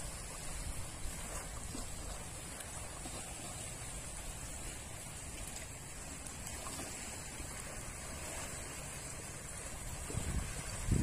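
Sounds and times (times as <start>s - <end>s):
waves lapping at shore: 0.0s - 11.0s.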